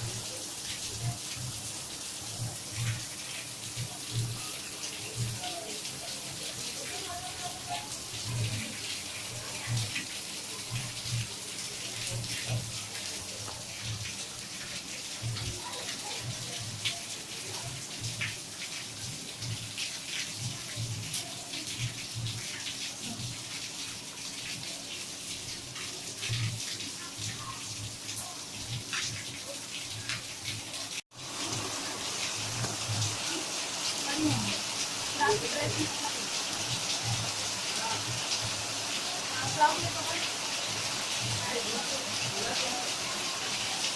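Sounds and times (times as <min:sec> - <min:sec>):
heavy rain: 0:00.0 - 0:43.9
running and dripping water: 0:00.0 - 0:43.9.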